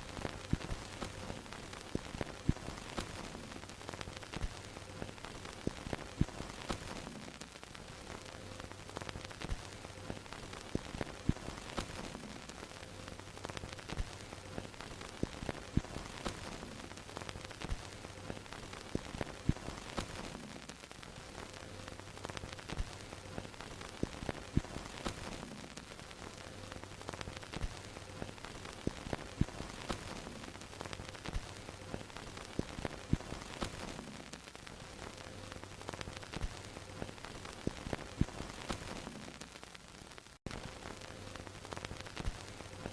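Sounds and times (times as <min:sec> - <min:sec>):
film crackles and pops over hiss: 0:00.0 - 0:42.9.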